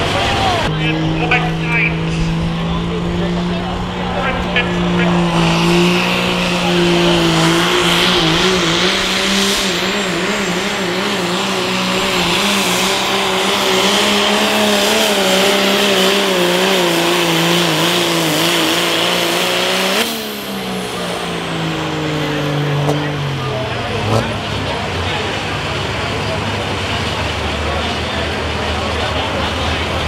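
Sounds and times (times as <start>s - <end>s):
diesel engine at full throttle: 0.0s - 30.0s.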